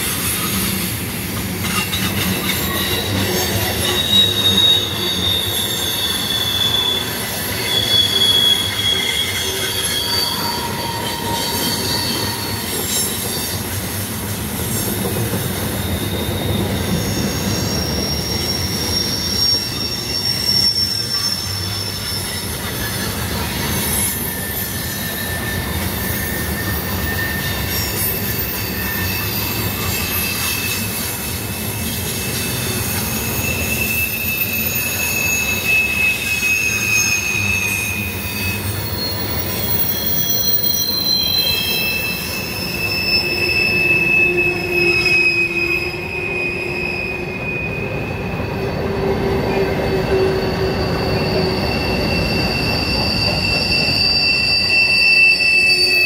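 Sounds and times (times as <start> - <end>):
high-pitched wheel squeals: 0.0 - 56.0
train wheels rumbling on rail: 0.0 - 56.0.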